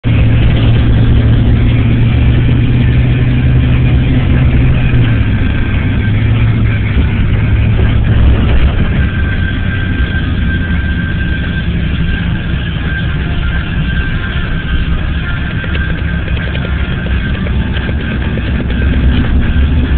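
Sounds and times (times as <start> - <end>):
car engine running: 0.0 - 19.9
road noise on snowy road: 0.0 - 19.9.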